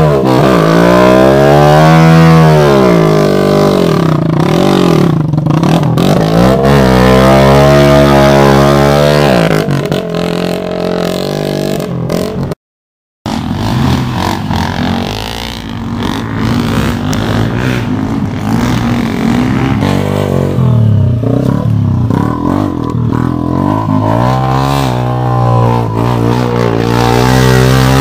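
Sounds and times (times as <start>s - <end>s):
dirt bike engine revving: 0.0s - 12.6s, 13.3s - 28.0s.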